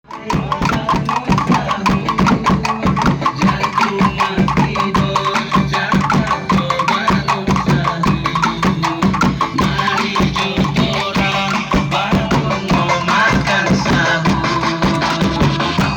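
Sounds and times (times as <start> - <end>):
music with fast percussion: 0.0 - 15.9
wooden knocking beat: 0.0 - 15.9.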